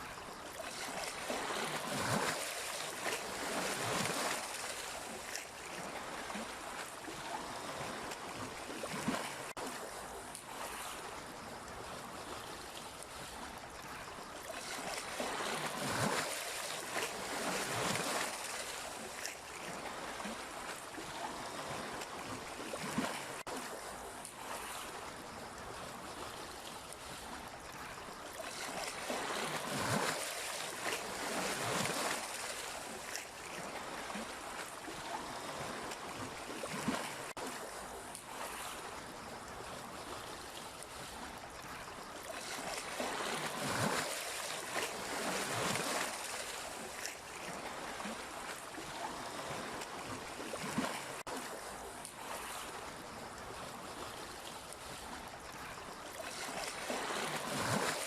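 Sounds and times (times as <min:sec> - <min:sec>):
sea waves washing in: 0:00.0 - 0:58.0.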